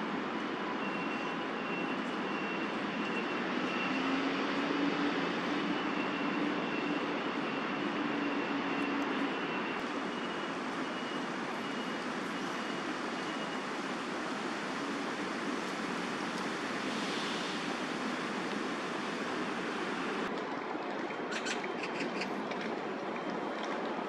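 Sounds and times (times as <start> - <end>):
distant city traffic roar: 0.0 - 24.0.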